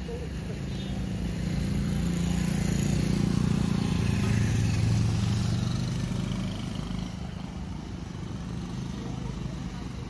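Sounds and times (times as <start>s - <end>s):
motorcycle passing by: 0.0s - 10.0s.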